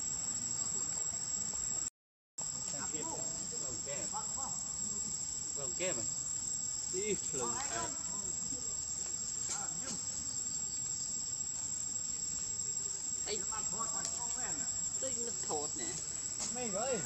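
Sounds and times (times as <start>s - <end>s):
high-pitched insect drone: 2.4s - 17.0s.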